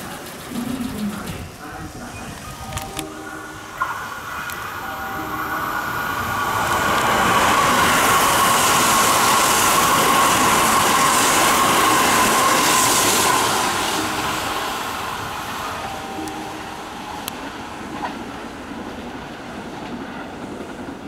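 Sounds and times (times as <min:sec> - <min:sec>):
train wheels rushing on rails: 0:00.0 - 0:21.0
train whine: 0:00.0 - 0:21.0.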